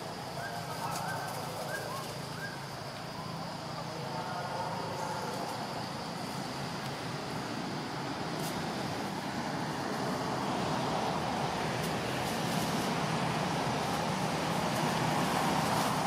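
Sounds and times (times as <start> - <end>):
rushing outdoor background noise: 0.0 - 16.0.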